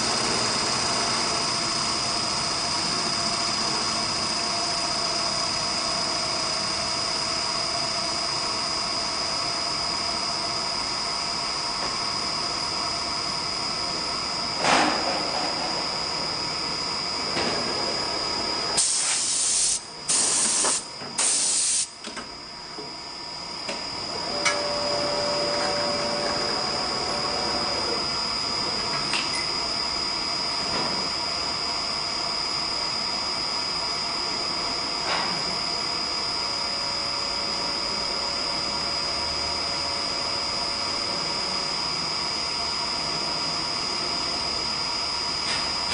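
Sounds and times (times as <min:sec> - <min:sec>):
lathe machine hum and whine: 0:00.0 - 0:45.9.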